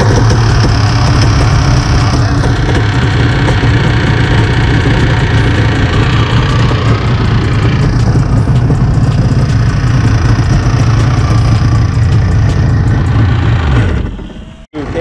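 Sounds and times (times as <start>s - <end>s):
two-stroke engine running: 0.0s - 15.0s.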